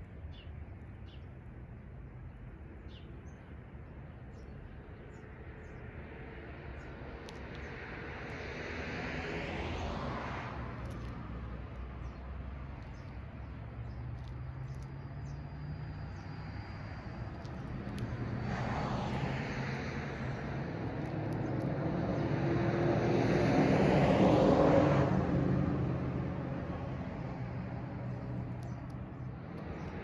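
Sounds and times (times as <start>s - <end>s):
cars passing by: 0.0s - 30.0s.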